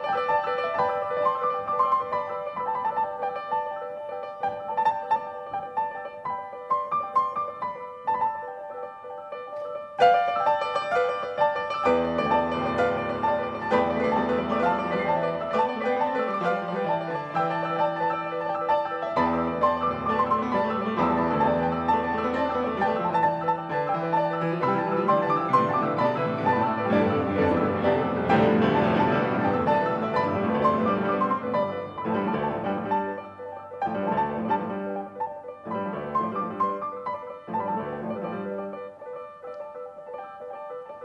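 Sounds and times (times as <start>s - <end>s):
grand pianos playing: 0.0s - 41.0s.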